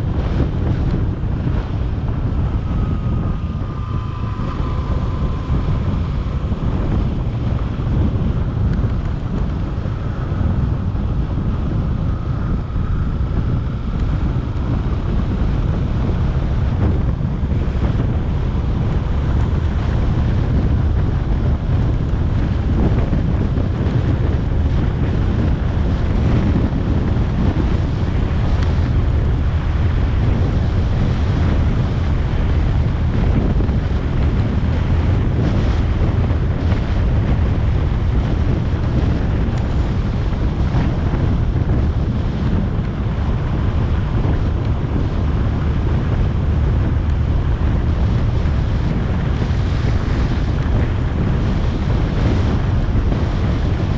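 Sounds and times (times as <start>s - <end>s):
faint whine: 0.0s - 45.2s
faint motorcycle engine running: 0.0s - 53.9s
wind buffeting microphone: 0.0s - 53.9s.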